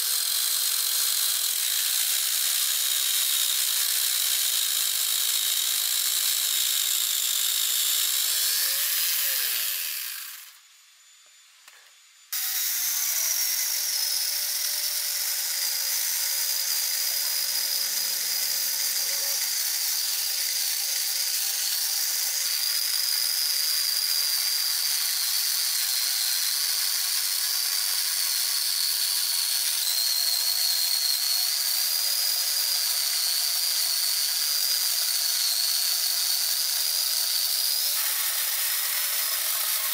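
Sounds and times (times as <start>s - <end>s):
angle grinder cutting log: 0.0s - 10.6s, 11.7s - 39.9s.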